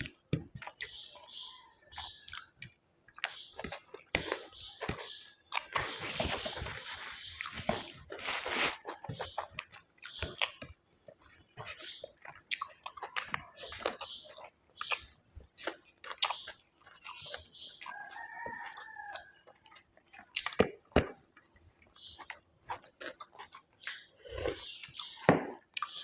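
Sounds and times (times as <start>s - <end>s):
chewing and wet mouth smacks: 0.0s - 1.1s, 2.0s - 26.0s.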